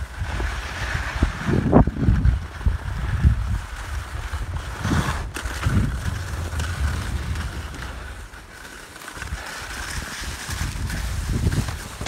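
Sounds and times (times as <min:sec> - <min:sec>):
sled scraping over snow: 0:00.0 - 0:12.0
wind rumbling on microphone: 0:00.0 - 0:12.0.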